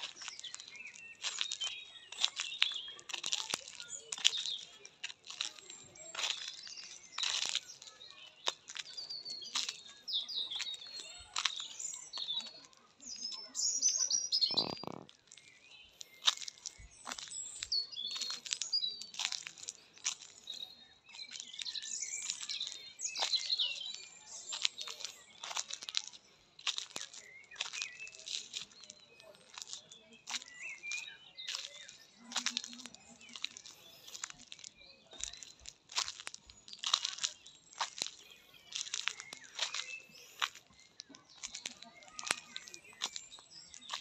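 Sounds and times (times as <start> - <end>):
footsteps crunching on gravel: 0.0 - 44.0
small birds chirping: 0.0 - 44.0.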